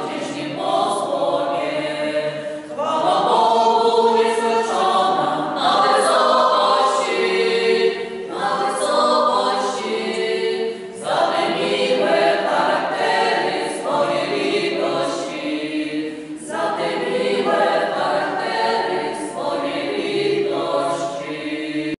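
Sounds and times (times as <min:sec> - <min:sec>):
mixed choir singing a carol: 0:00.0 - 0:22.0.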